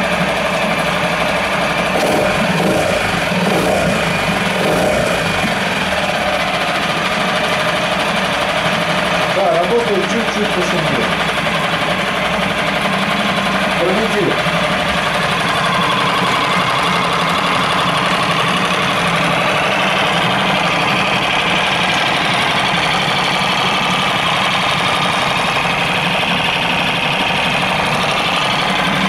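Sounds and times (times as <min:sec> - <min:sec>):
outboard motor idling: 0:00.0 - 0:29.0.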